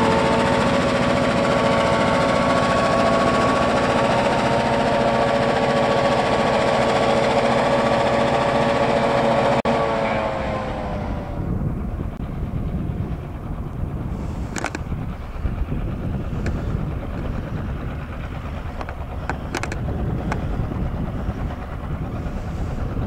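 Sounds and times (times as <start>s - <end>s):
diesel locomotive engine rumble: 0.0s - 23.0s
steady whine: 0.0s - 23.0s.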